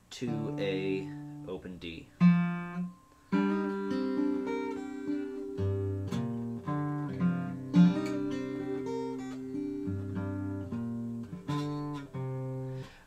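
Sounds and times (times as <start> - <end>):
acoustic guitar fingerpicked: 0.1 - 13.0.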